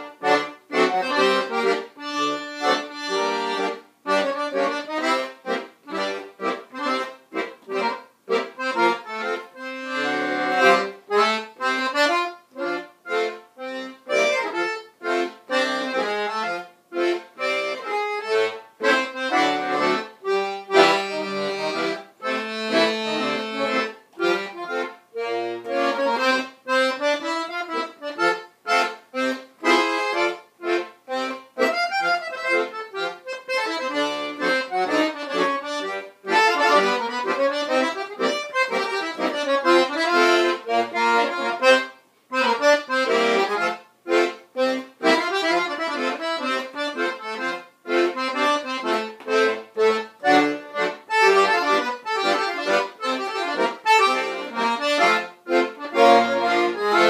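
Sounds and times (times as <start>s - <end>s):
piano accordion playing jazz: 0.0s - 57.0s.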